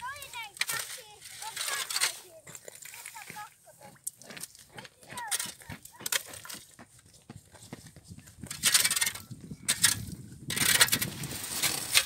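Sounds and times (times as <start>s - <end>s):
ice scoop crunching scrape: 0.0s - 6.8s, 8.5s - 12.0s.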